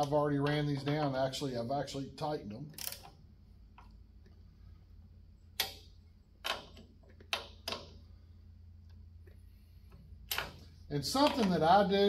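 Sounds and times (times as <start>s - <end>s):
faint steady low hum: 0.0s - 12.0s.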